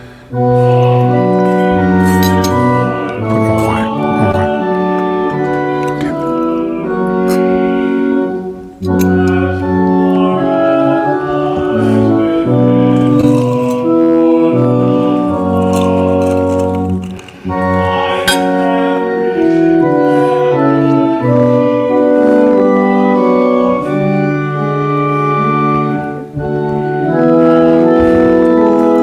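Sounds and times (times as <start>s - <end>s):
church organ playing chords: 0.0s - 29.0s.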